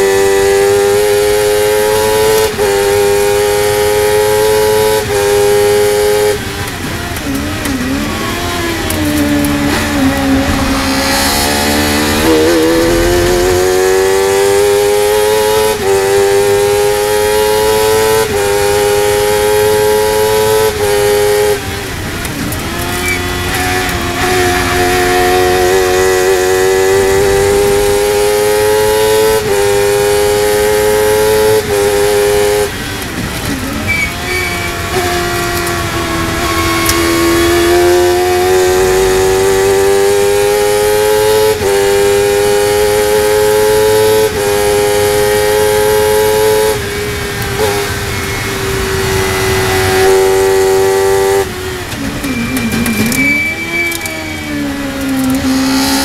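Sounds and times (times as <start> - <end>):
quick gear upshifts: 0.0 - 56.0
race car engine revving: 0.0 - 56.0.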